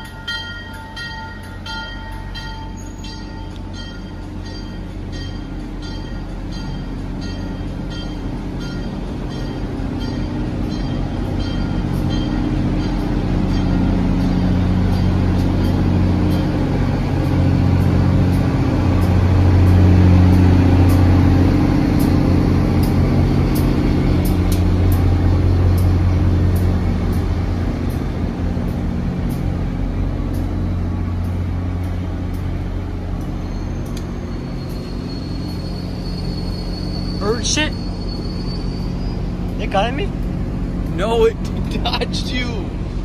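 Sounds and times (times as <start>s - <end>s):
train engine droning: 0.0s - 43.0s.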